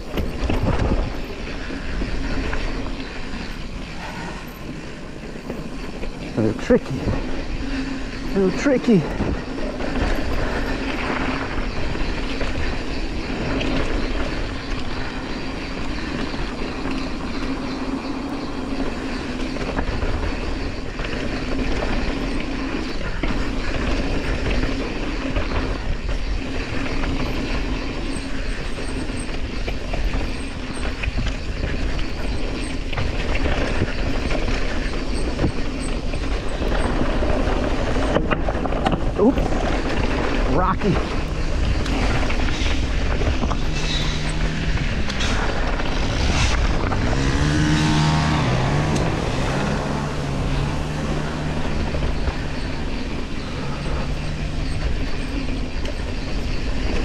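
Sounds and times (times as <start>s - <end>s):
bike rattling: 0.0s - 57.0s
bike tyres rumbling on dirt: 0.0s - 57.0s.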